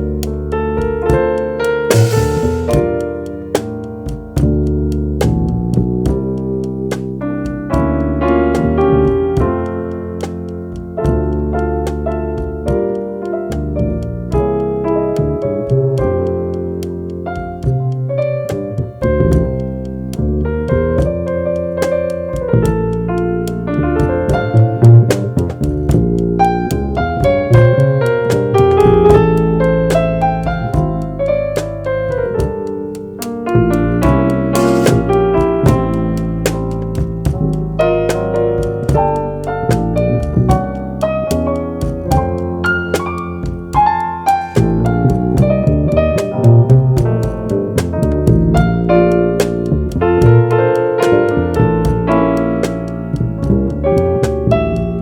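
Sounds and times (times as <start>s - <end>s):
electric piano chords and melody: 0.0s - 55.0s
moving bass line: 0.0s - 55.0s
light drums: 0.1s - 55.0s.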